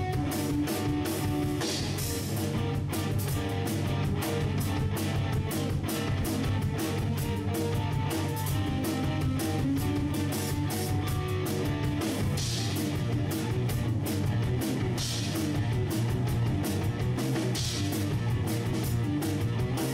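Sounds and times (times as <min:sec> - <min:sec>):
bass guitar: 0:00.0 - 0:19.9
guitar notes: 0:00.0 - 0:19.9
steady drum beat: 0:00.0 - 0:19.9.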